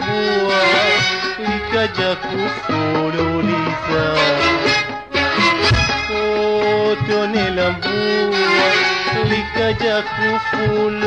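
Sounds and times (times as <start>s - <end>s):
bowed strings melody: 0.0s - 11.0s.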